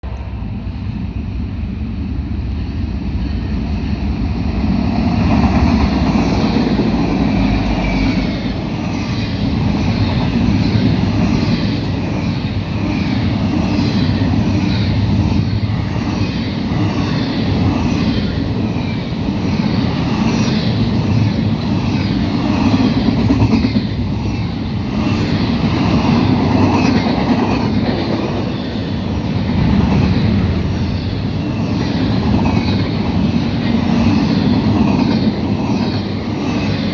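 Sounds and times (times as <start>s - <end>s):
freight train rumbling: 0.0s - 36.9s.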